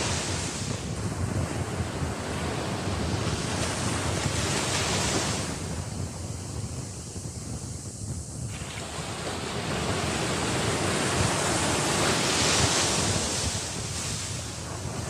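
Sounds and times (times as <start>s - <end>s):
surf washing in: 0.0s - 15.0s
wind rumbling on microphone: 0.0s - 15.0s.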